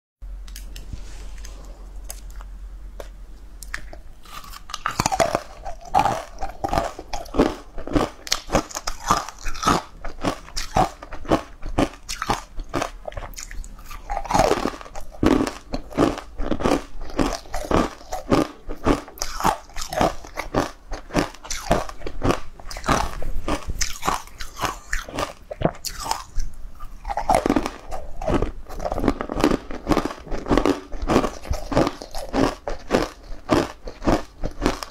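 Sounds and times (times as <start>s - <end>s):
chewing: 1.4s - 34.9s
ice crunching in mouth: 3.6s - 34.9s.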